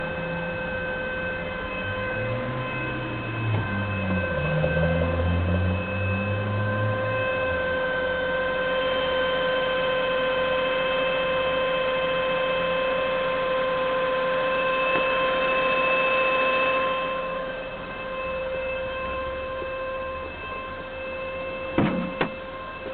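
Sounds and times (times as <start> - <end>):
car engine high-pitched whine: 0.0 - 22.9.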